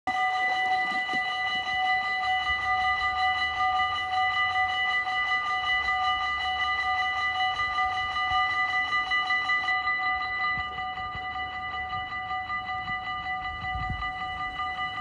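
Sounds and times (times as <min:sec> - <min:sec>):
level crossing warning bells: 0:00.1 - 0:15.0.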